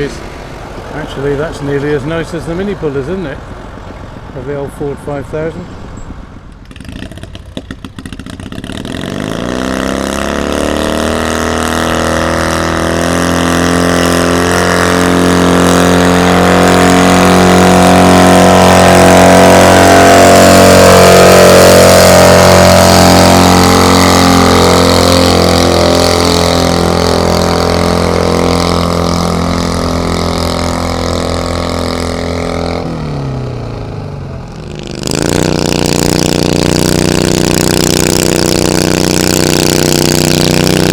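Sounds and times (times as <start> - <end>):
tractor engine revving: 0.0 - 40.9
another engine running: 5.0 - 40.9.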